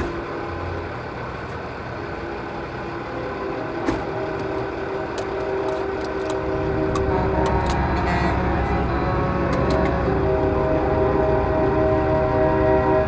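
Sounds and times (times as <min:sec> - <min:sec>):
diesel trucks rolling past: 0:00.0 - 0:13.0.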